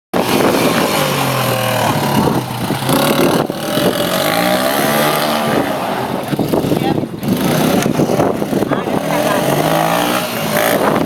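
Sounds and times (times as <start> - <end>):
engine revving: 0.2 - 11.0.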